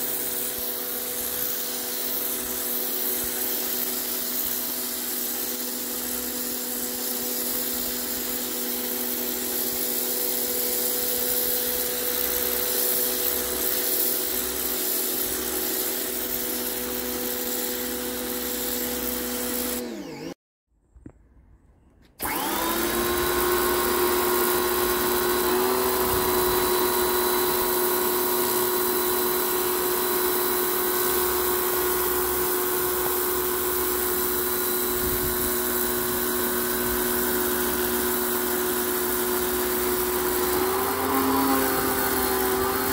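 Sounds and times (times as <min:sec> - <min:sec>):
water jet hissing on paving: 0:00.0 - 0:19.8, 0:22.9 - 0:42.9
pressure washer motor humming: 0:00.0 - 0:20.4, 0:22.2 - 0:42.9.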